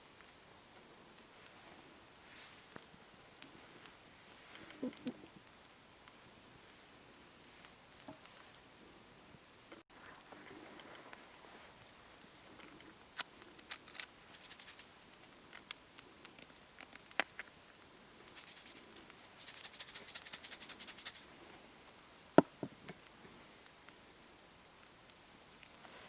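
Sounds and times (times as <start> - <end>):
fat and coals crackling: 0.0 - 26.0
patties sizzling over charcoal: 0.0 - 26.0.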